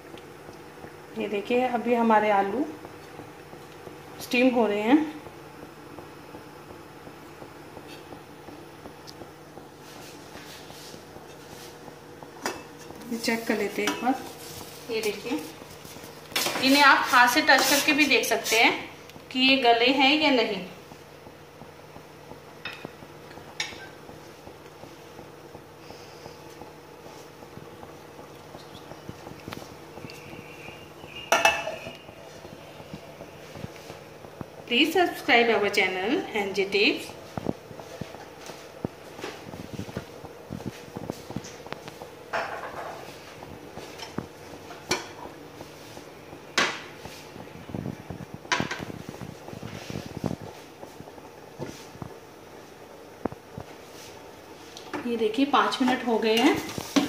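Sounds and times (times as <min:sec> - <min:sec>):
faint steady hum: 0:00.0 - 0:57.0
pot boiling and bubbling: 0:00.0 - 0:57.0.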